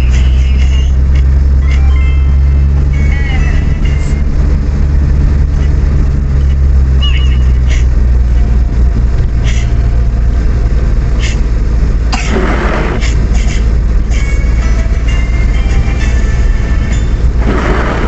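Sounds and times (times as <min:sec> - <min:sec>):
vehicle rumble on road: 0:00.0 - 0:18.0.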